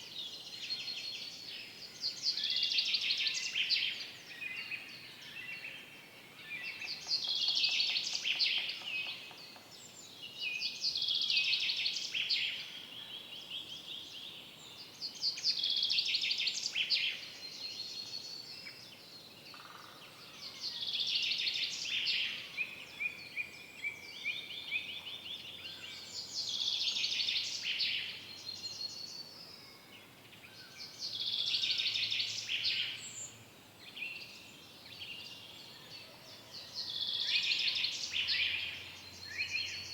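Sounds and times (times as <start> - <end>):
faint forest ambience hiss: 0.0 - 39.9.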